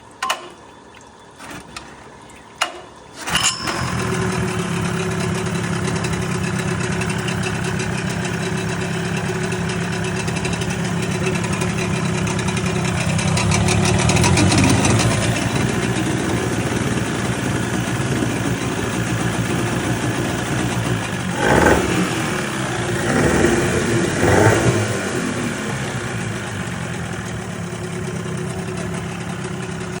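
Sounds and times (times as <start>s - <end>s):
outboard boat motor running: 3.2s - 30.0s.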